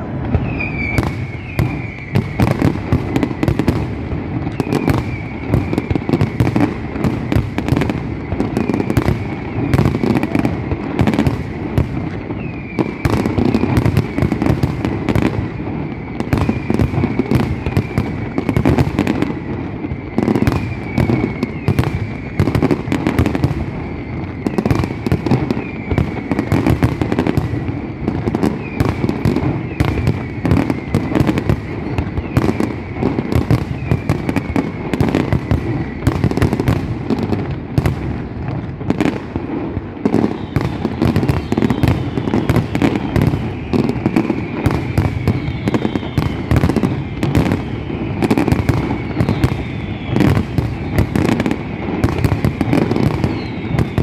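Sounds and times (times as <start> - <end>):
descending firework whistles: 0.0 - 54.0
fireworks bangs and crackling: 0.0 - 54.0.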